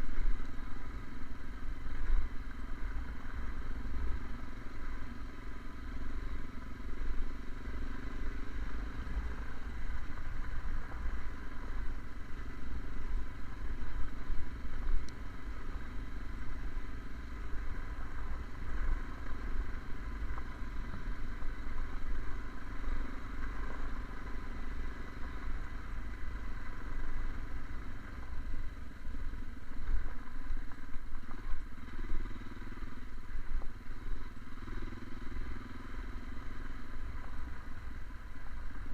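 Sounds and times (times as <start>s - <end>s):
pickup engine and road rumble: 0.0s - 38.9s.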